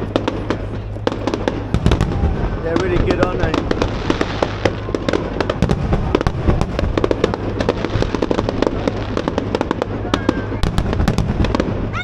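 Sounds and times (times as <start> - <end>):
fireworks cracking and banging: 0.0 - 12.0
low rumble: 0.0 - 12.0.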